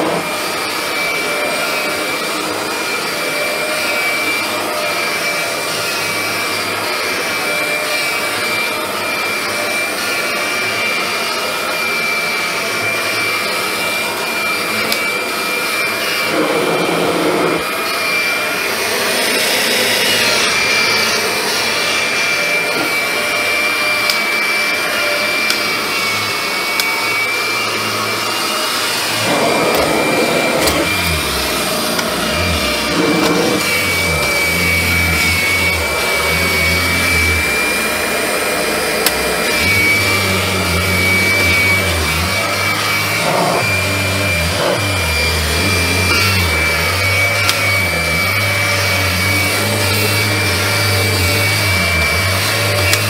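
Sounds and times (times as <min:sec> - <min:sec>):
vacuum cleaner on carpet: 0:00.0 - 0:53.0.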